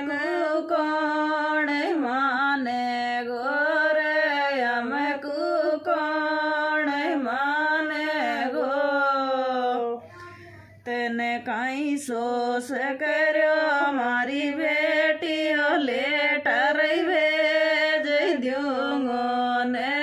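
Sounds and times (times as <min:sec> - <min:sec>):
woman singing unaccompanied: 0:00.0 - 0:20.0.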